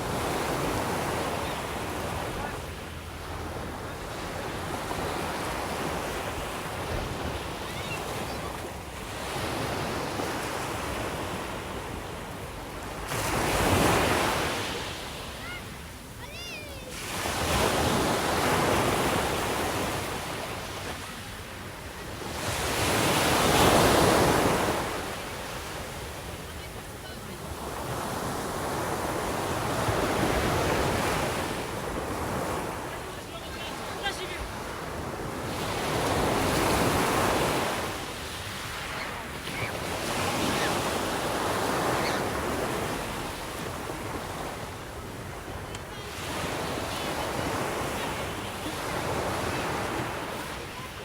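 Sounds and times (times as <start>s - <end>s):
sea waves breaking on shore: 0.0s - 51.0s.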